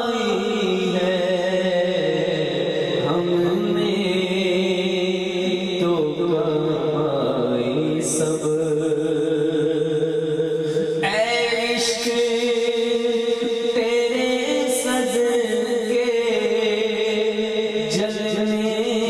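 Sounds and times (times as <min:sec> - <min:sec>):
man singing through microphone: 0:00.0 - 0:19.0.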